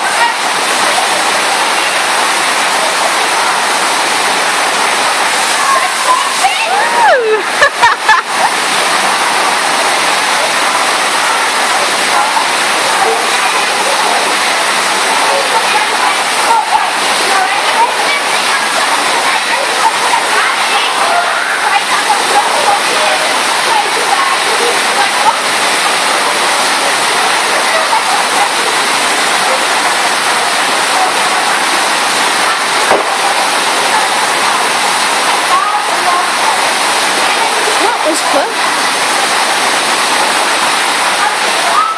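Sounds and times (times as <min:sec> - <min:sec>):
loud rush of water: 0:00.0 - 0:41.9.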